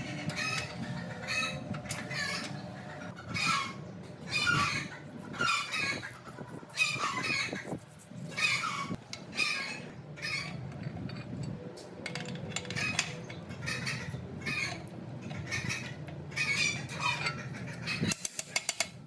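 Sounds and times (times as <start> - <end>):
chickens calling: 0.0 - 11.4, 12.4 - 19.0.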